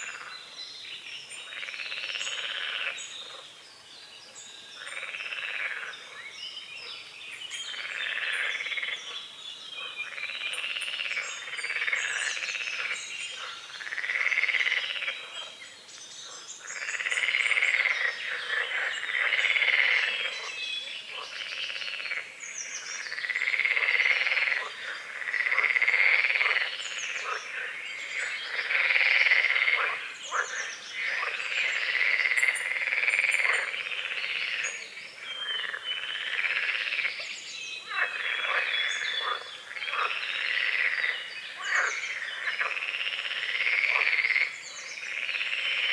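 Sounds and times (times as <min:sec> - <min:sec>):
frogs croaking: 0:00.0 - 0:03.6, 0:04.6 - 0:45.9.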